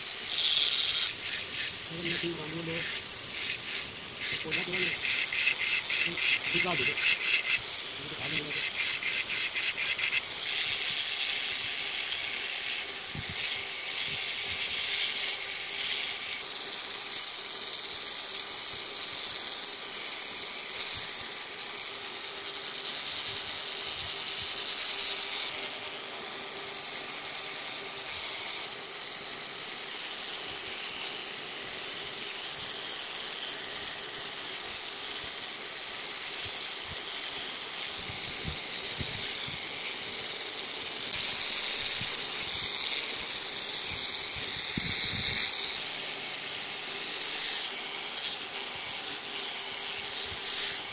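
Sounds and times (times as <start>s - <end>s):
faint motor hum: 0.0s - 50.9s
rotary tool grinding wood: 0.0s - 50.9s.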